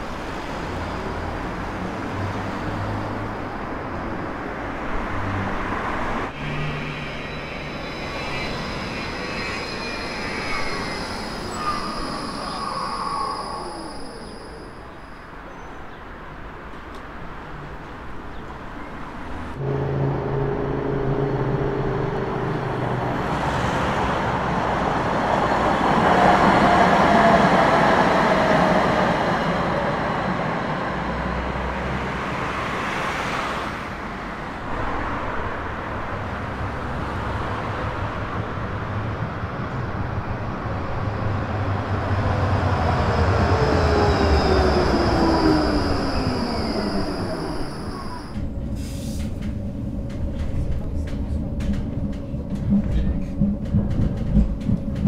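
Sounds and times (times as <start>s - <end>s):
street traffic rolling by: 0.0s - 55.0s
trams passing: 0.0s - 55.0s
falling whine of tram slowing: 5.1s - 15.5s, 19.3s - 55.0s.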